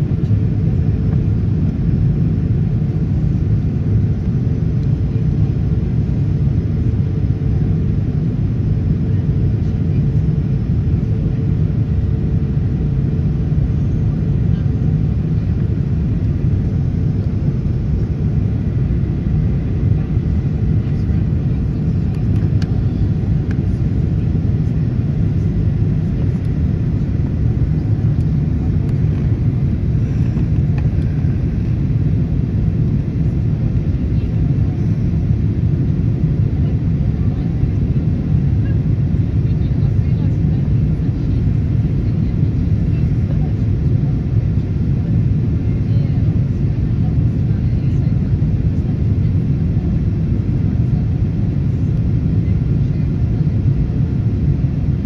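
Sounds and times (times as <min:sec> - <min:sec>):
airplane cabin engine rumble: 0:00.0 - 0:55.0
airflow: 0:10.7 - 0:55.0.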